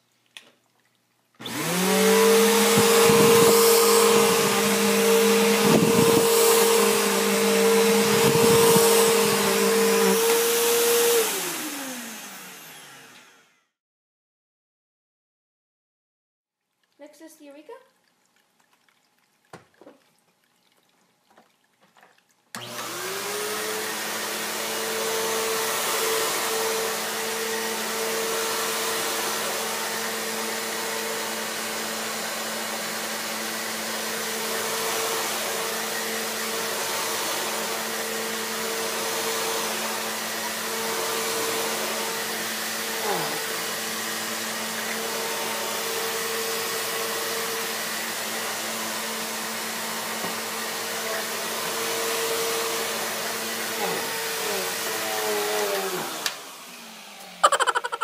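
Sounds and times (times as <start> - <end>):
vacuum cleaner running: 1.4 - 13.8, 22.6 - 58.0.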